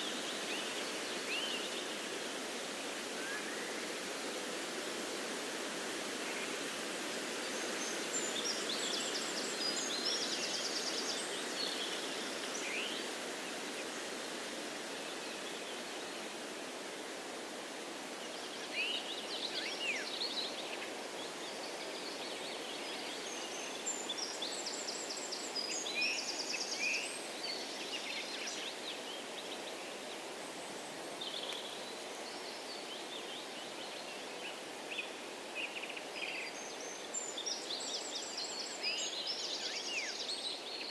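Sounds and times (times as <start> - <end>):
songbirds chirping: 0.0 - 40.9
wind through trees: 0.0 - 40.9.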